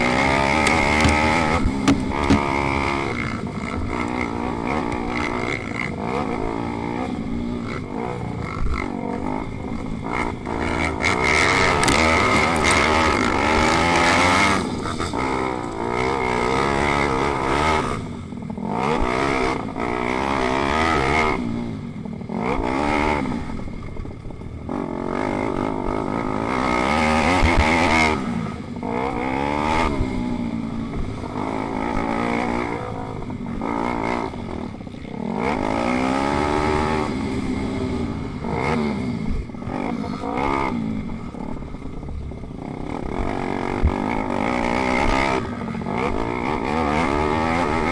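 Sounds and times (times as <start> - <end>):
pit bike engines revving: 0.0 - 47.9.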